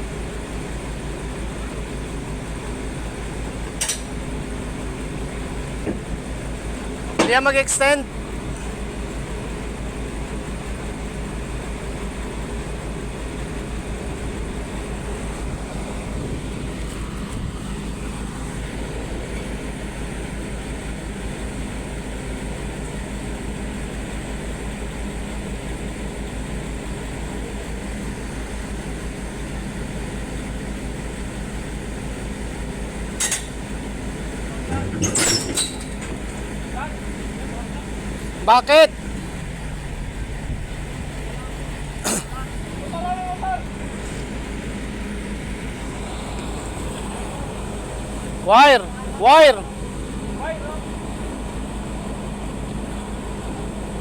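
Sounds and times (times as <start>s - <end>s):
diesel engine throbbing: 0.0s - 54.0s.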